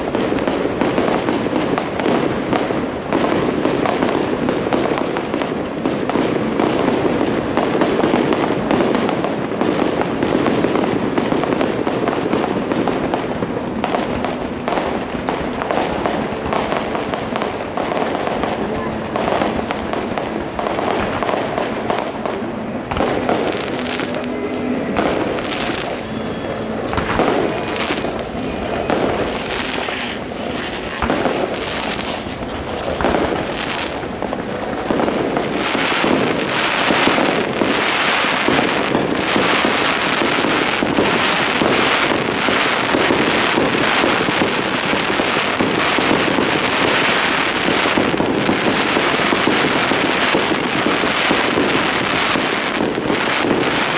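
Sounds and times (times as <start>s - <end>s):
crackling fireworks stars: 0.0s - 53.9s
fireworks bursting with bangs: 0.0s - 53.9s.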